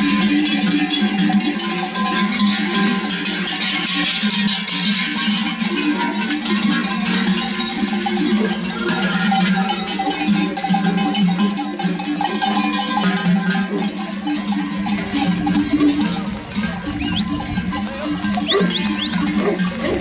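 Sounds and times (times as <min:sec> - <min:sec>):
animal bells clanking: 0:00.0 - 0:20.0.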